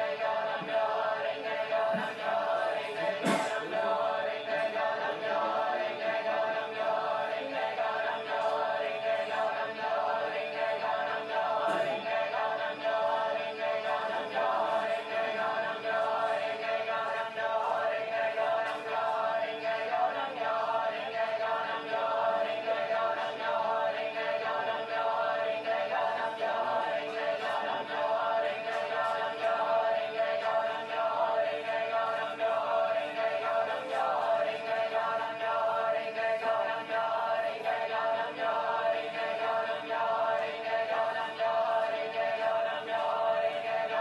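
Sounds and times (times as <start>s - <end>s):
choir singing a capella: 0.0s - 44.0s.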